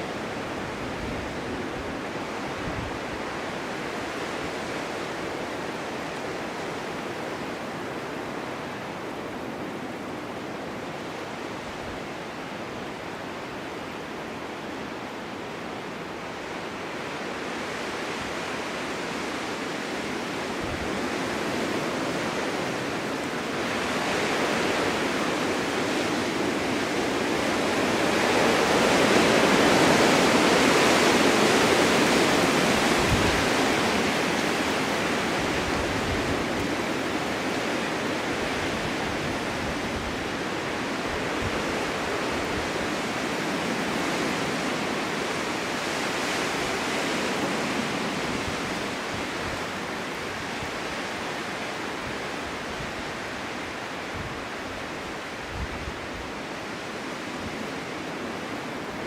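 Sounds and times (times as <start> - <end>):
snowstorm wind blowing: 0.0 - 59.0.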